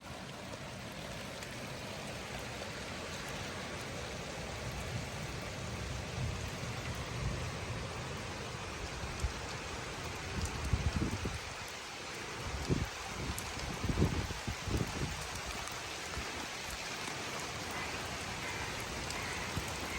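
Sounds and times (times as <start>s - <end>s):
rain pattering: 0.0s - 19.9s.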